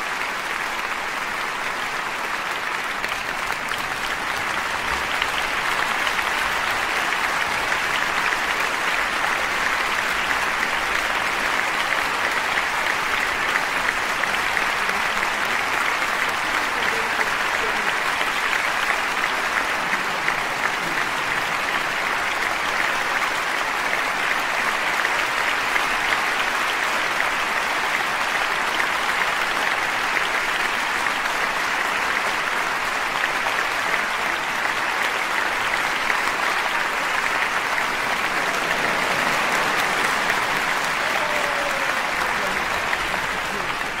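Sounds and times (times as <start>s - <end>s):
large audience applauding: 0.0s - 44.0s.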